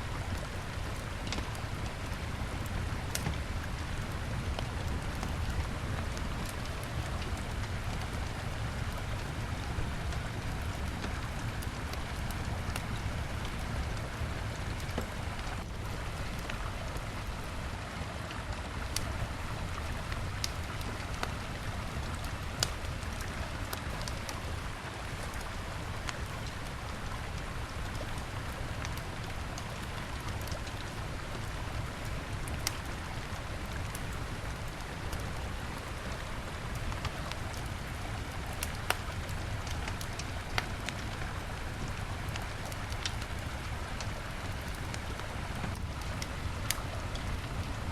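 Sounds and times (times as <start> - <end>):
river flowing: 0.0 - 47.9
campfire crackling and popping: 0.1 - 47.9.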